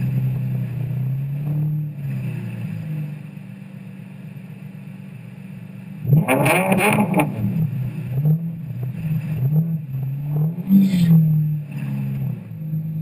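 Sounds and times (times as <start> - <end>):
car engine idling: 0.0 - 6.3, 7.0 - 13.0.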